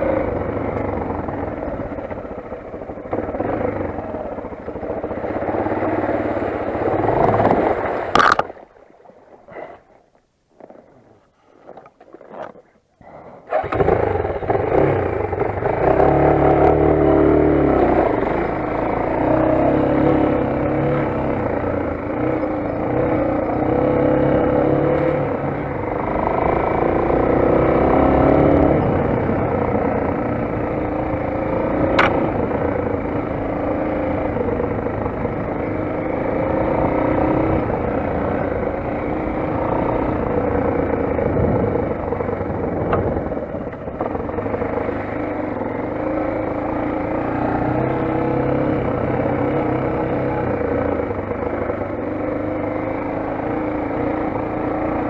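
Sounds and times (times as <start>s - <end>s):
motorcycle engine running: 0.0s - 8.5s, 13.4s - 55.0s.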